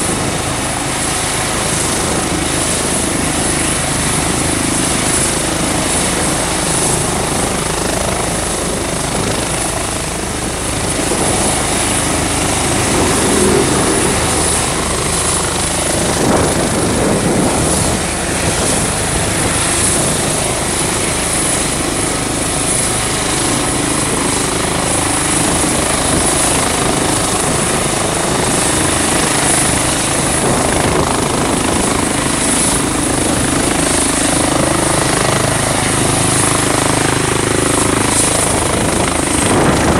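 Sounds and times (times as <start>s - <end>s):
helicopter hovering: 0.0s - 39.9s
high turbine whine: 0.0s - 39.9s.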